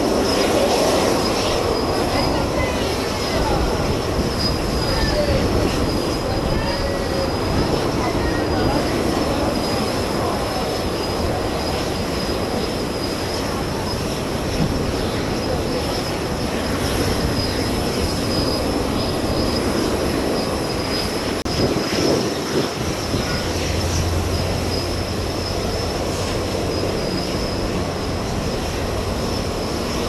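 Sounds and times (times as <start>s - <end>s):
jet engines whining: 0.0s - 30.0s
wind buffeting microphone: 0.0s - 30.0s.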